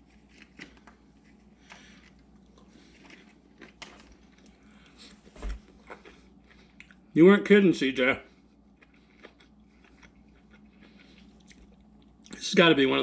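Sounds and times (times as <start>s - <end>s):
quiet chewing: 0.0s - 7.1s, 8.3s - 12.4s.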